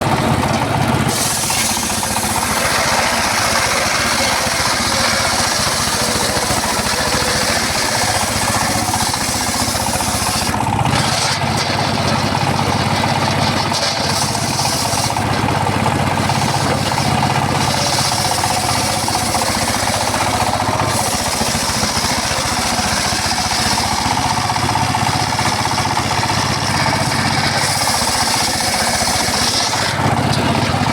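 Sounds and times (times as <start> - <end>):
circular saw rattling: 0.0 - 30.9
saw blade hissing in wood: 1.1 - 11.4, 13.7 - 15.2, 16.2 - 30.0.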